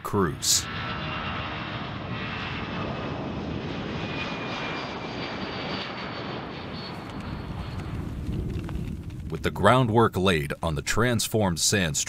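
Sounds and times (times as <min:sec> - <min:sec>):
high turbine whine: 0:00.0 - 0:10.9
jet engines rumbling: 0:00.0 - 0:12.0.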